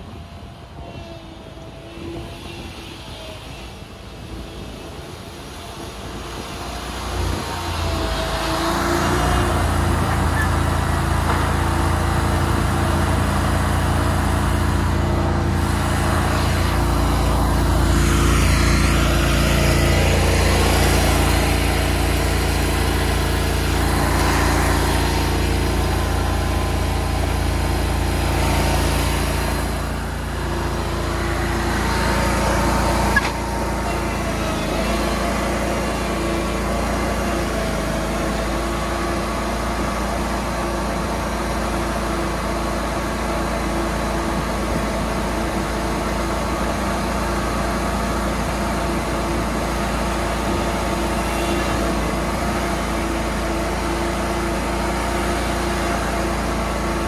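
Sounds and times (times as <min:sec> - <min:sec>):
mower engine running: 0:03.2 - 0:57.0.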